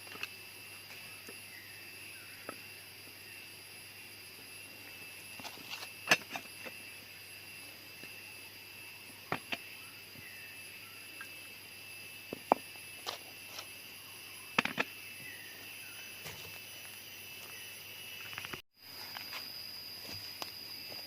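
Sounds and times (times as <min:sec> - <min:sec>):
jungle insects chirring: 0:00.0 - 0:21.0.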